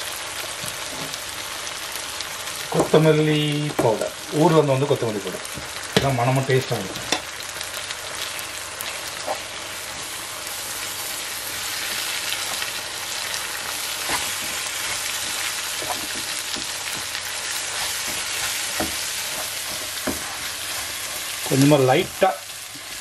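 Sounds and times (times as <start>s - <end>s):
sauce sizzling in oil: 0.0s - 23.0s.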